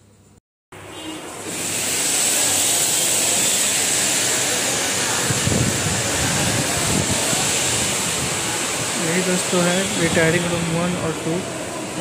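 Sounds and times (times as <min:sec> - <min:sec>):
steady rushing hiss: 0:01.4 - 0:12.0.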